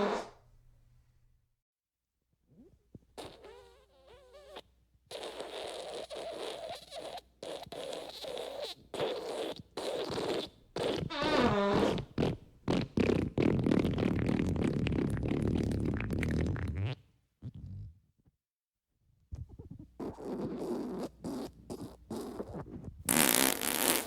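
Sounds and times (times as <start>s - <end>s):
fart sound effects: 0.0s - 0.4s, 3.2s - 17.9s, 19.4s - 24.0s.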